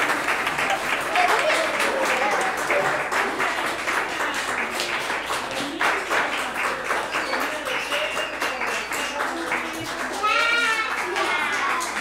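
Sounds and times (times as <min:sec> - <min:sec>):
audience applauding: 0:00.0 - 0:12.0
scattered voices: 0:00.0 - 0:12.0.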